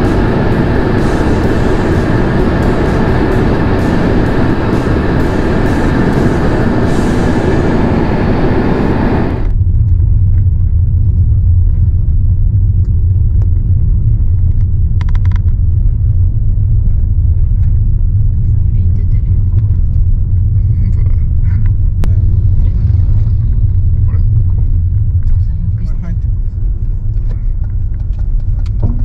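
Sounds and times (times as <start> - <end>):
low cabin rumble: 0.0 - 29.0
road and wind noise: 0.0 - 29.0.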